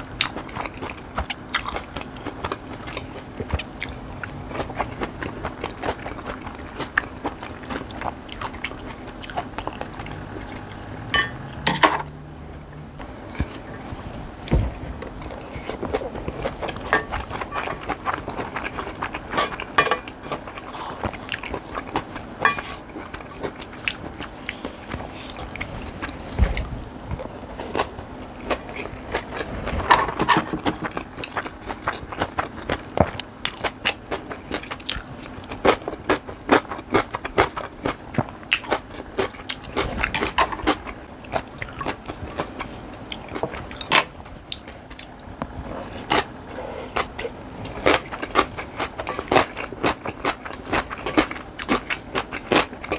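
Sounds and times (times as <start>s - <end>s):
person chewing crunchy food: 0.1s - 52.9s.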